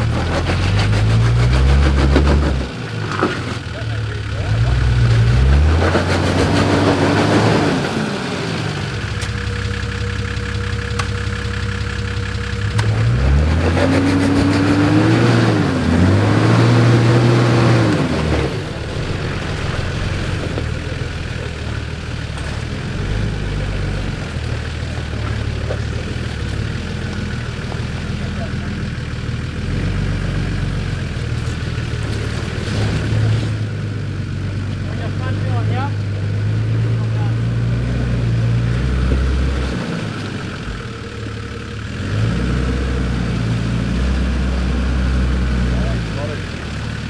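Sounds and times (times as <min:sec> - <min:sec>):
engine revving in mud: 0:00.0 - 0:47.0.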